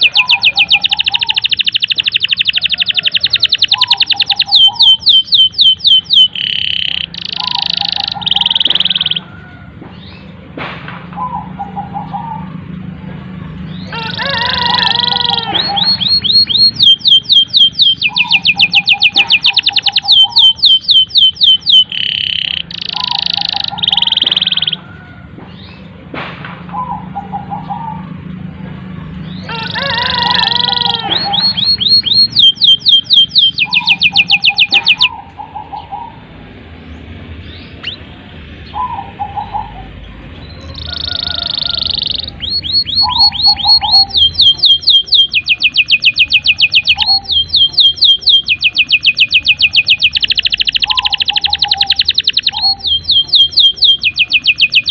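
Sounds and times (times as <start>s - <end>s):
canary singing: 0.0s - 10.5s, 11.1s - 26.1s, 26.7s - 54.9s.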